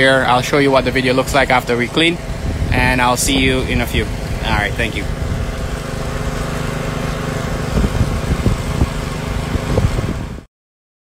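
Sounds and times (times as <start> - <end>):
small engine running: 0.0 - 10.5.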